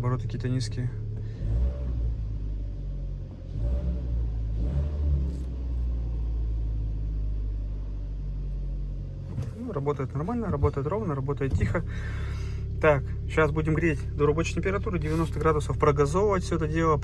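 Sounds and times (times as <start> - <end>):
car engine idling: 0.0 - 3.6, 5.3 - 17.0.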